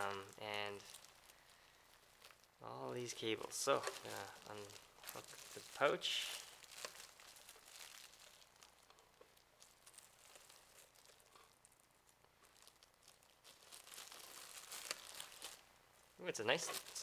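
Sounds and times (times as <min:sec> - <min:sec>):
packaging rustling and crinkling: 0:00.0 - 0:15.7, 0:16.3 - 0:17.0.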